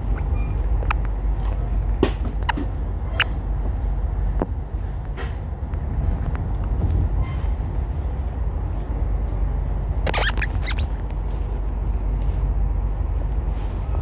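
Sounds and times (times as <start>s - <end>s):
train rumble inside carriage: 0.0s - 10.1s, 10.8s - 14.0s.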